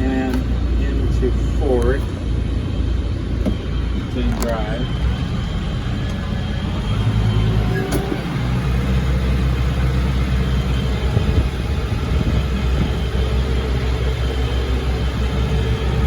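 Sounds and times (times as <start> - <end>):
tractor diesel engine drone: 0.0 - 16.0.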